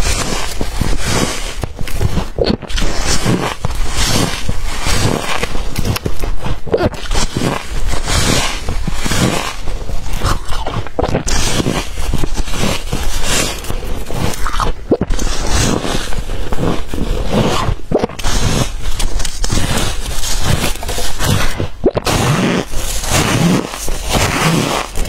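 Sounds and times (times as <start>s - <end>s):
teeth crunching frost: 0.0s - 25.0s.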